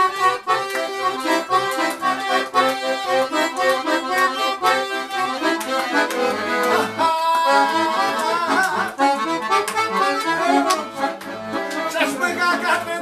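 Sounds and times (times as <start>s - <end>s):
accordion: 0.0s - 13.0s
violin: 0.0s - 13.0s.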